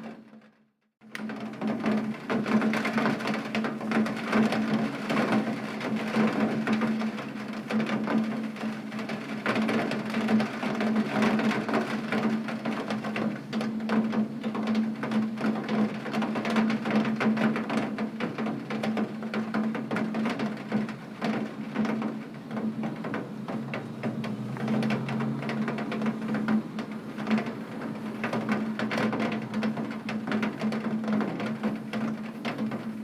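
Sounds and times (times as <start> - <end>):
heavy rain on a window pane: 0.0 - 33.0.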